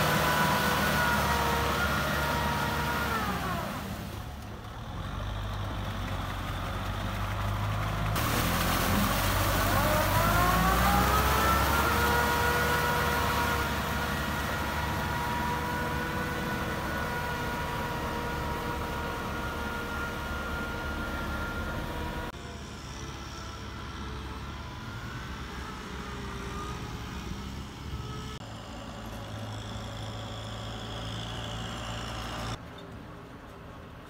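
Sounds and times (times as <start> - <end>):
tractor diesel engine running: 0.0 - 32.7.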